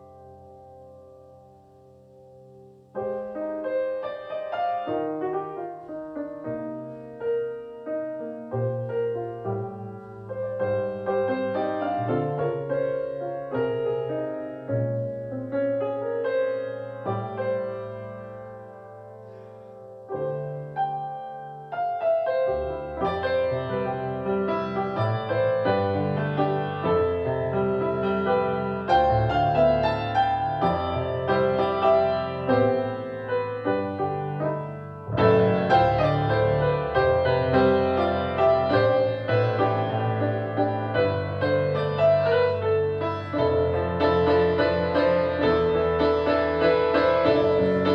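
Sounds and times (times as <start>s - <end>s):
gentle piano piece: 0.0s - 47.9s.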